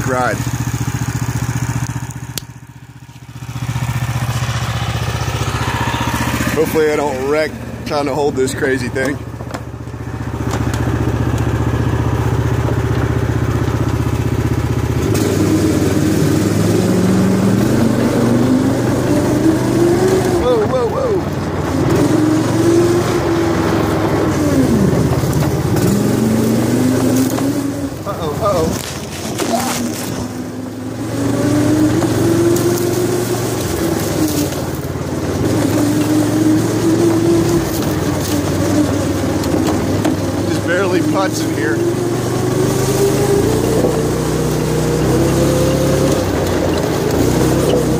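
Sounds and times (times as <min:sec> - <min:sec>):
go-kart engine revving: 0:00.0 - 0:47.9.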